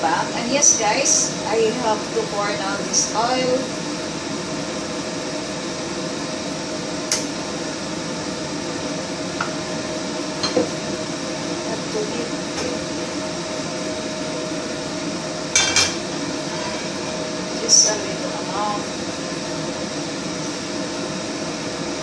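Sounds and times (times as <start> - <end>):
mechanical hum with whine: 0.0 - 22.0.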